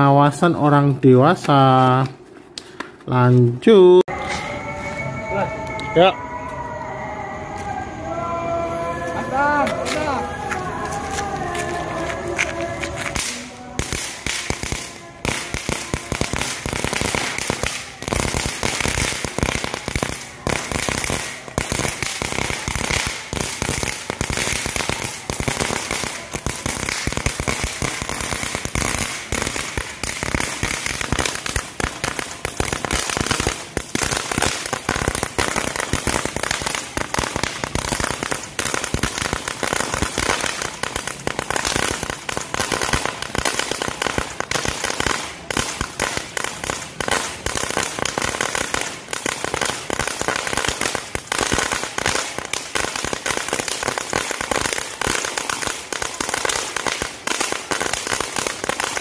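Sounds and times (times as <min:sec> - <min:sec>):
firework fountain crackling: 0:00.0 - 0:06.1, 0:07.6 - 0:59.0.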